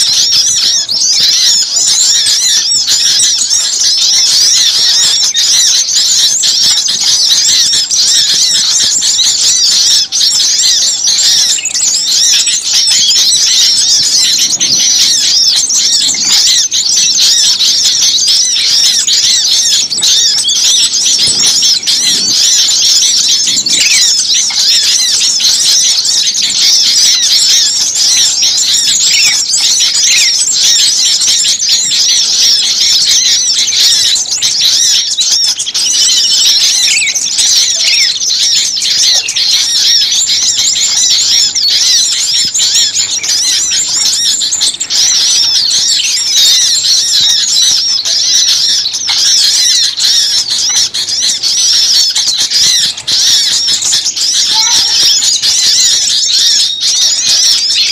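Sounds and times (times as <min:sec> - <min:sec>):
small songbirds chirping: 0:00.0 - 0:57.9.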